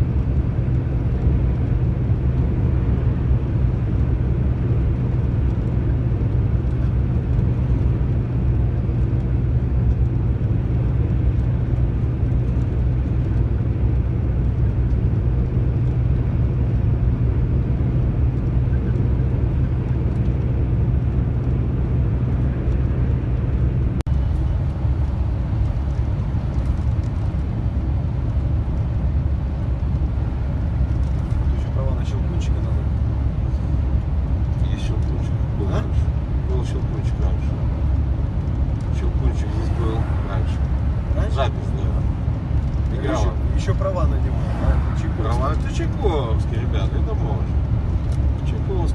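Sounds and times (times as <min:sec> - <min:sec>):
road noise: 0:00.0 - 0:48.9
truck engine drone: 0:00.0 - 0:48.9.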